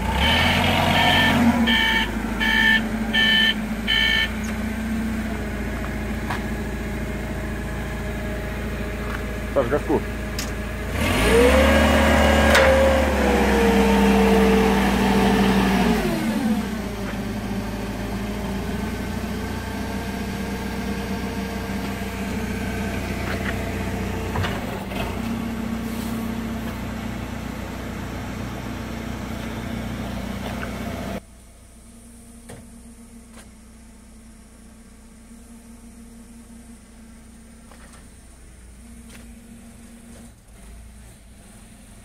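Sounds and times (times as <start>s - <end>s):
forklift engine running: 0.0s - 42.0s.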